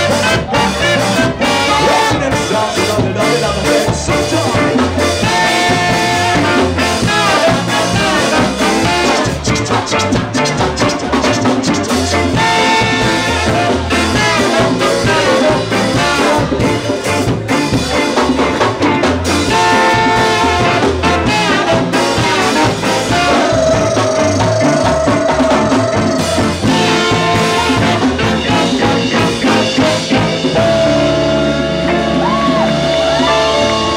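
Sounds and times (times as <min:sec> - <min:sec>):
saxophone: 0:00.0 - 0:03.4, 0:04.2 - 0:17.3, 0:19.3 - 0:33.9
drum kit: 0:00.0 - 0:33.9
guitar: 0:00.0 - 0:33.9
trombone: 0:00.0 - 0:33.9.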